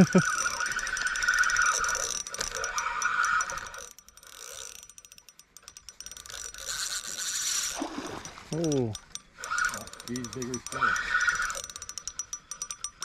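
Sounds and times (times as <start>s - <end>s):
fishing reel whirring and clicking: 0.0s - 13.0s.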